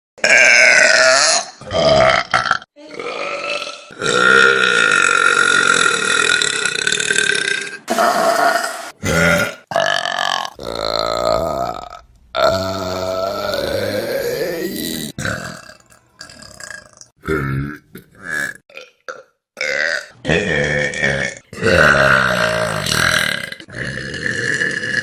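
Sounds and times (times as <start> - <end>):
loud human burps: 0.2 - 25.0.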